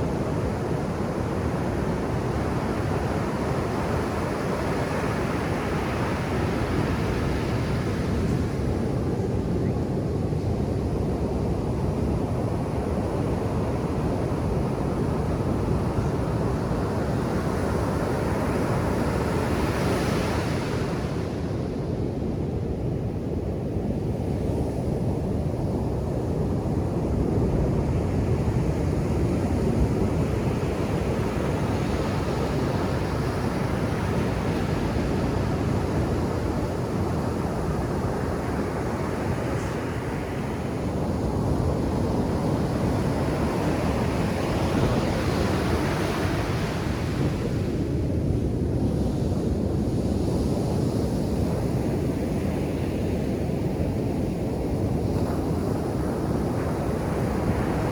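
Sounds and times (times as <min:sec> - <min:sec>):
waves breaking on a beach: 0:00.0 - 0:57.9.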